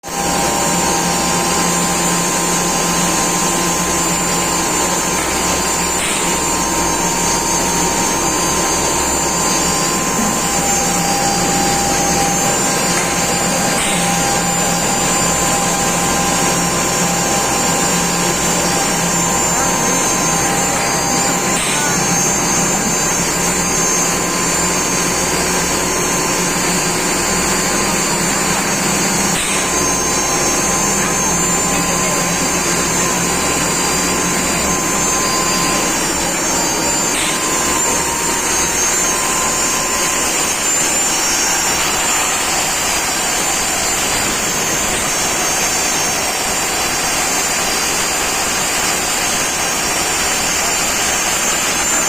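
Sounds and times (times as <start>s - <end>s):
grinder mill whining: 0.0s - 52.0s.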